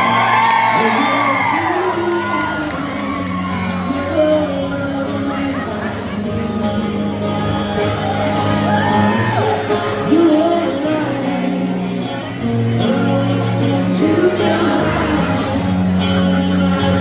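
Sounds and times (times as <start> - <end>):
live band playing: 0.0 - 17.0
person singing: 0.0 - 17.0.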